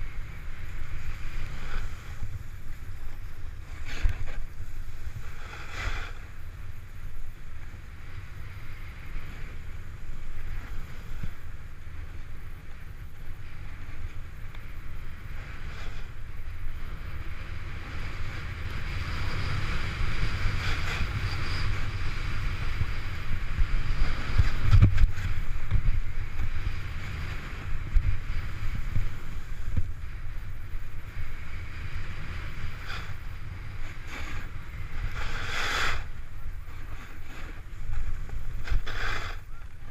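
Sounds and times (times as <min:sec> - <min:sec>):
snowboard scraping over snow: 0:00.0 - 0:39.9
wind rumble on microphone: 0:00.0 - 0:39.9.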